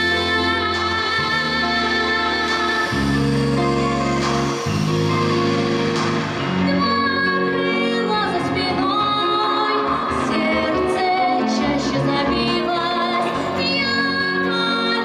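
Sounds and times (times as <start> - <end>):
girl singing with vibrato: 0.0 - 3.8, 6.6 - 15.0
instrumental backing with bass line: 0.0 - 15.0.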